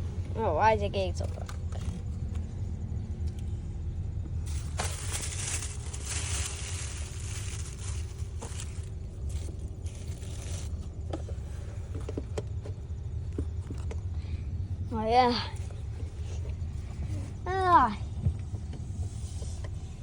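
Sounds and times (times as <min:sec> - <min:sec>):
road rumble inside car: 0:00.0 - 0:20.0.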